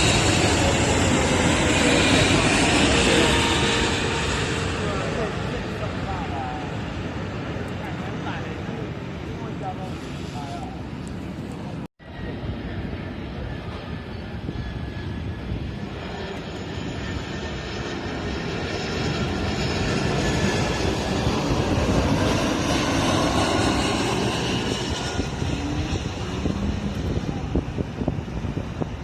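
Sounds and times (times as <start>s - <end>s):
jet airliner engines roaring: 0.0s - 29.0s.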